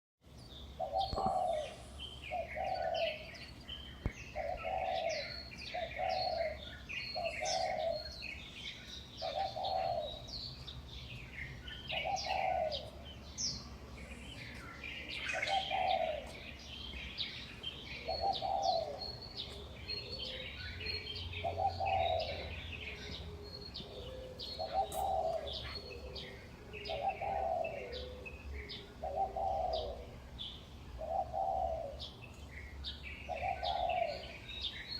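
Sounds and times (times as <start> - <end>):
small birds chirping: 0.2 - 34.9
low cooing call: 0.7 - 8.5, 9.2 - 10.6, 11.9 - 32.3, 33.2 - 34.7.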